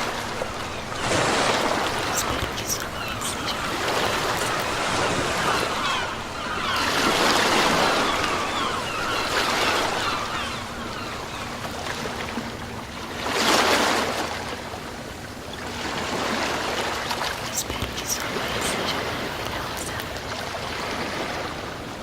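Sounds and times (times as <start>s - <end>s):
sea waves washing up shore: 0.0s - 22.0s.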